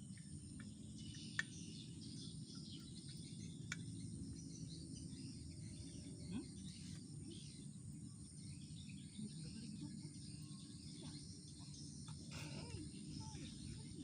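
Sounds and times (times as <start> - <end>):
constant low rumble: 0.0 - 14.0
high insect drone: 0.0 - 14.0.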